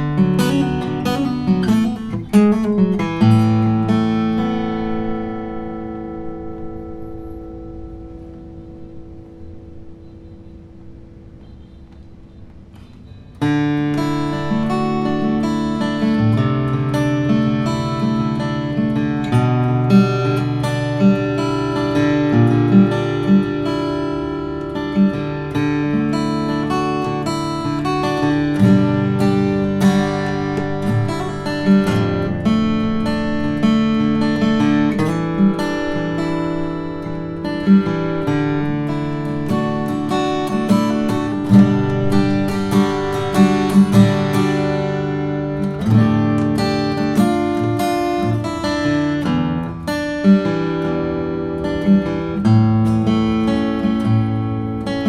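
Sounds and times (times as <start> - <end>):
acoustic guitar melody: 0.0 - 55.0.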